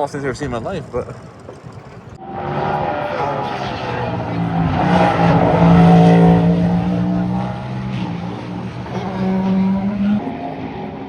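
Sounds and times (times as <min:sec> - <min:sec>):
race car engine passing: 0:01.5 - 0:11.0.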